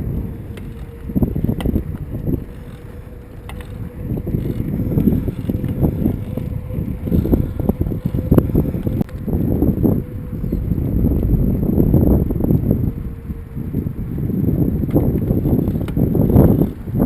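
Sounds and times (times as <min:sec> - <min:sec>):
bicycle clicks and rattles: 0:00.0 - 0:17.0
road rumble: 0:00.0 - 0:17.0
wind buffeting microphone: 0:00.0 - 0:17.0.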